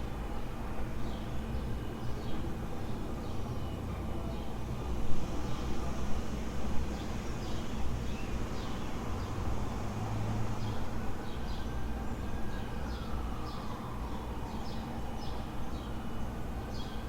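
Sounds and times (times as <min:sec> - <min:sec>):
low rumble of city traffic: 0:00.0 - 0:17.0
songbirds chirping: 0:00.3 - 0:05.8, 0:06.8 - 0:09.5, 0:10.5 - 0:17.0.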